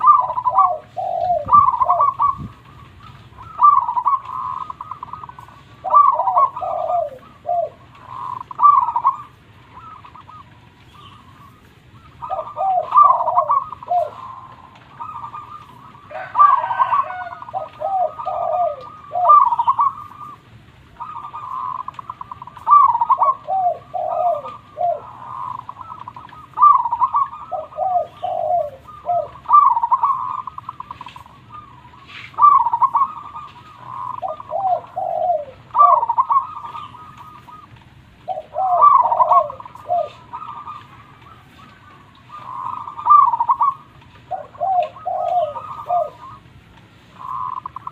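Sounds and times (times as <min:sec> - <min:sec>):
dove cooing song: 0:00.0 - 0:47.9.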